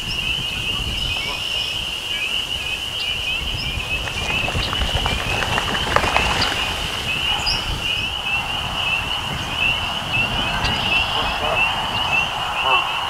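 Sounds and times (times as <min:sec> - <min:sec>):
bird chirps: 0:00.0 - 0:13.0
frogs peeping: 0:00.0 - 0:13.0.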